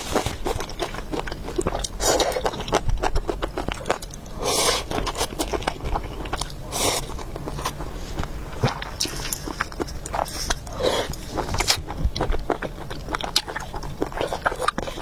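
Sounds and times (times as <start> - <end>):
wet chewing with mouth clicks: 0.0 - 15.0.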